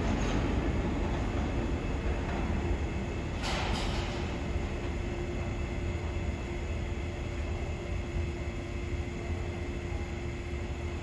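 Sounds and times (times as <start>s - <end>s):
steady hum: 0.0s - 11.0s
subway train rumble: 0.0s - 11.0s.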